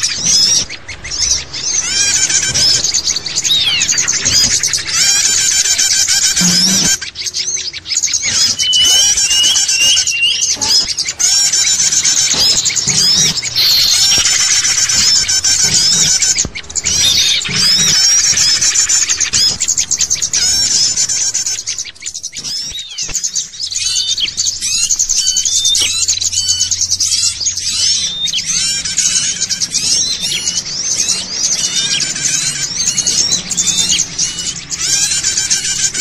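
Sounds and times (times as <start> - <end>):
songbirds chirping chorus: 0.0 - 36.0.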